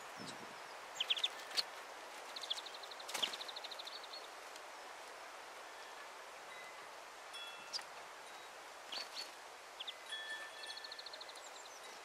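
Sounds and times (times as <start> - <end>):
songbirds calling and trilling: 0.0 - 6.8, 7.4 - 12.0.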